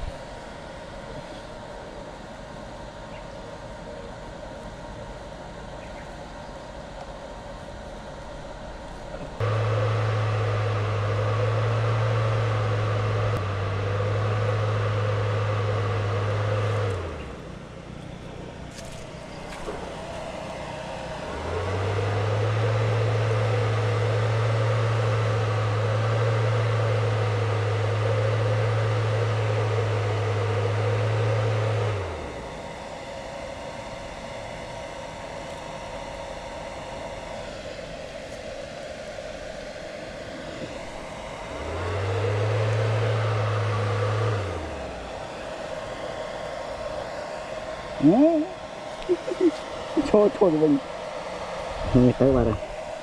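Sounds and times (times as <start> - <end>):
motor humming: 8.1 - 53.0.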